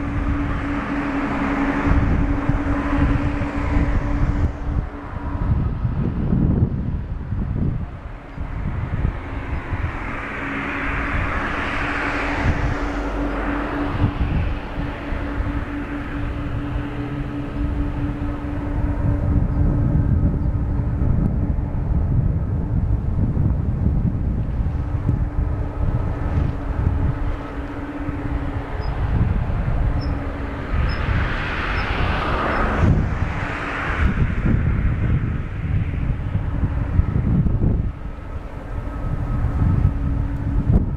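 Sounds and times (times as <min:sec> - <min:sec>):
jet engines whining: 0:00.0 - 0:40.9
wind buffeting microphone: 0:00.0 - 0:40.9.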